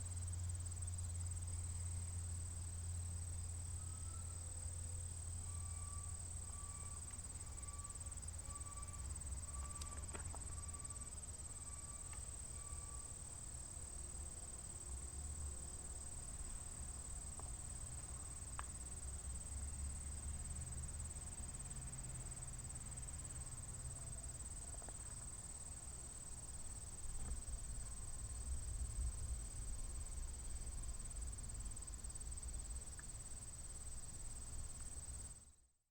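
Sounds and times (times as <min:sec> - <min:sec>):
insects trilling: 0:00.0 - 0:35.4
low outdoor rumble: 0:00.0 - 0:35.4.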